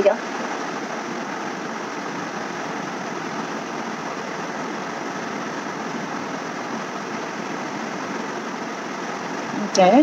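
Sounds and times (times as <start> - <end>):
room noise hiss: 0.0 - 10.0.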